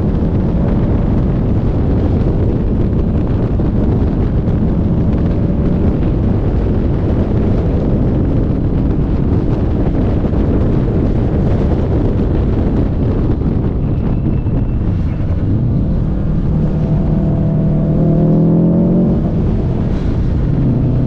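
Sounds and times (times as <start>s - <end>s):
car engine and road noise: 0.0s - 21.0s
wind buffeting microphone: 0.0s - 21.0s.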